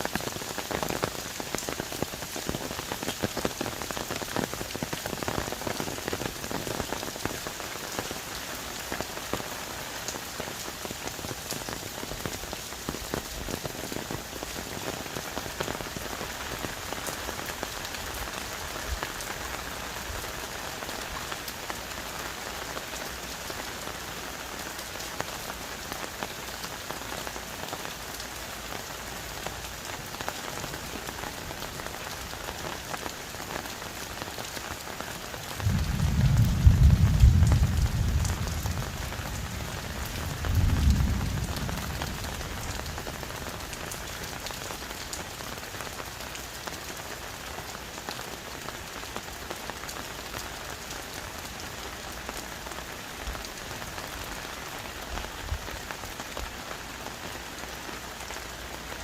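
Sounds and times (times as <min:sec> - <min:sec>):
heavy rain on foliage: 0:00.0 - 0:59.0.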